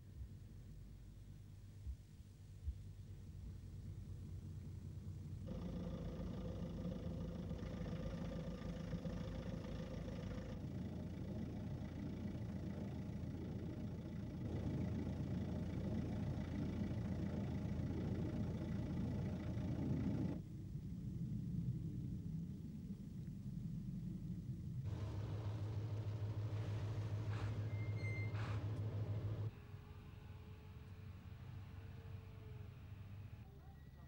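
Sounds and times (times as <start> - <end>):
vehicle engine running: 0.0 - 21.2, 23.8 - 33.6.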